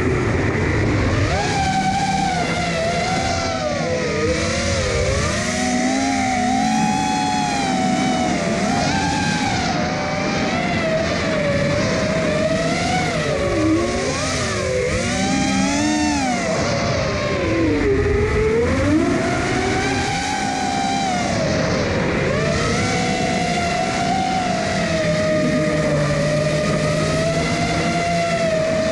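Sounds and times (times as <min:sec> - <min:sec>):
quadcopter motors whining: 0:00.0 - 0:28.9.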